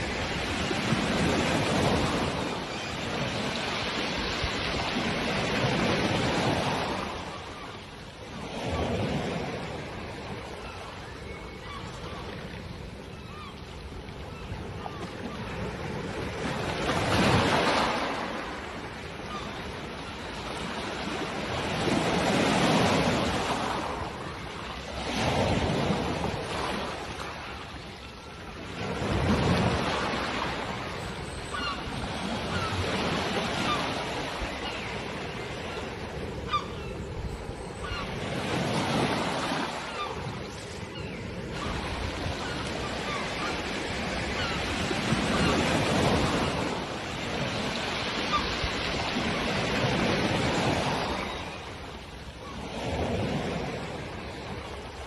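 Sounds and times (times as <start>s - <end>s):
gulls calling: 8.6s - 55.0s.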